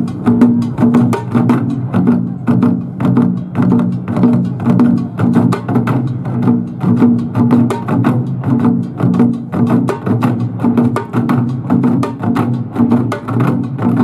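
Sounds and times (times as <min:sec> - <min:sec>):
barrel drums beating: 0:00.0 - 0:14.0.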